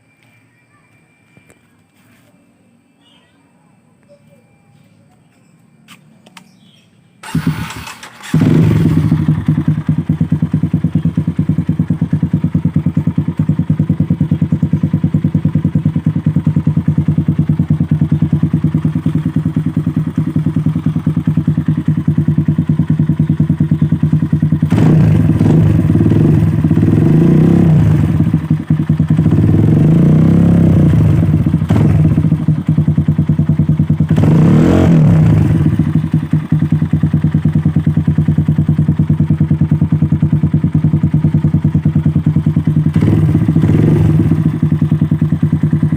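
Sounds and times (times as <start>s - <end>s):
motorcycle engine idling and revving: 4.9s - 45.9s.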